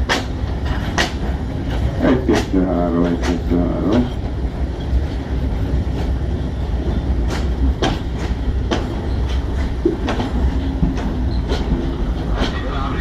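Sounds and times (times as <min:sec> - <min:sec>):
wheels clacking over rail joints: 0:00.0 - 0:12.9
train wheels rumbling: 0:00.0 - 0:13.0.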